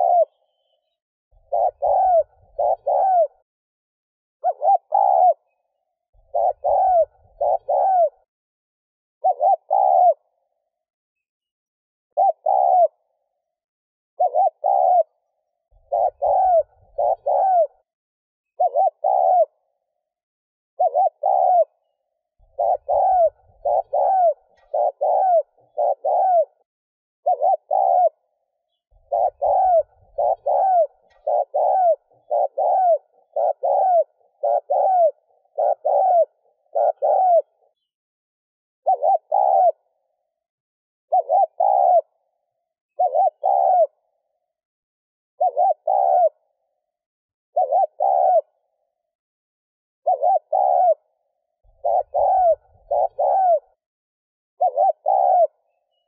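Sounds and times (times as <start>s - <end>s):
dove cooing: 0.0s - 3.5s, 4.4s - 8.3s, 9.2s - 10.8s, 12.1s - 13.5s, 14.2s - 17.9s, 18.5s - 20.1s, 20.8s - 37.9s, 38.8s - 40.4s, 41.1s - 44.5s, 45.4s - 49.0s, 50.0s - 53.8s, 54.6s - 56.0s.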